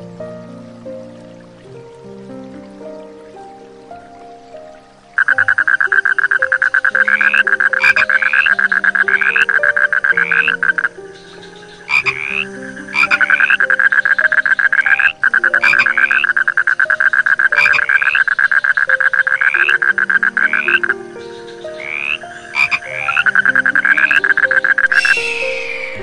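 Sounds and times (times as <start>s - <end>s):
frogs trilling: 0.0s - 26.0s
frogs rising chirps: 0.9s - 26.0s.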